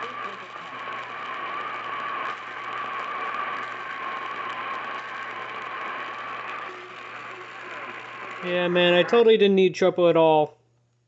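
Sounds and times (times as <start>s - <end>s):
low hum: 0.0s - 9.3s
radio static hiss: 0.0s - 9.9s.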